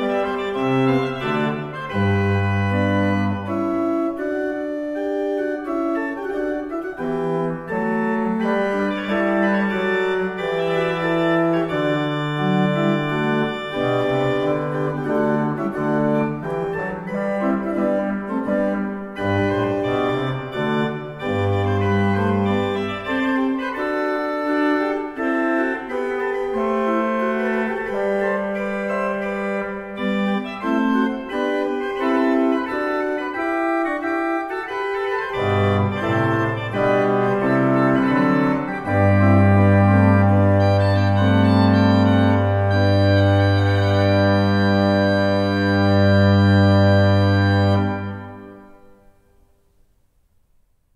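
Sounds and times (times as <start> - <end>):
pipe organ playing: 0.0 - 49.1.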